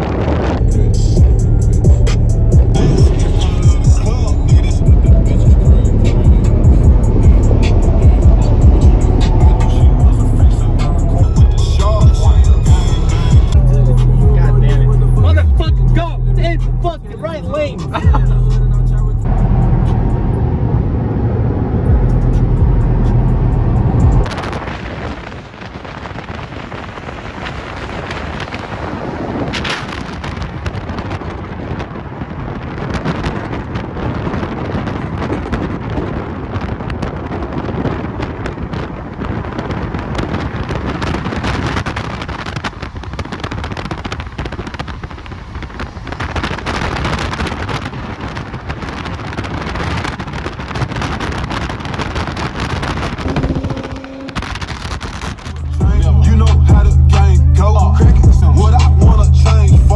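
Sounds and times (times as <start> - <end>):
road noise from moving car: 0.0 - 59.9
wind buffeting microphone: 0.0 - 59.9.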